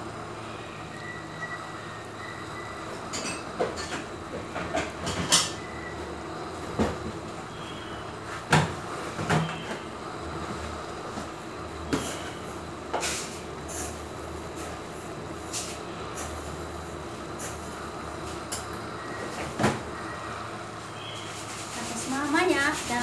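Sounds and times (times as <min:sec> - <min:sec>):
food simmering in metal tray: 0:00.0 - 0:23.0.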